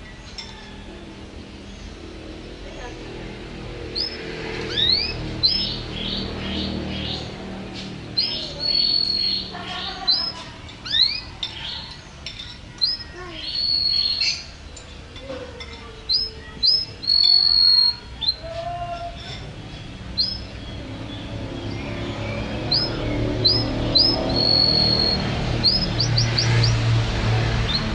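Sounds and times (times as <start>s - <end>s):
canary singing: 0.0s - 27.9s.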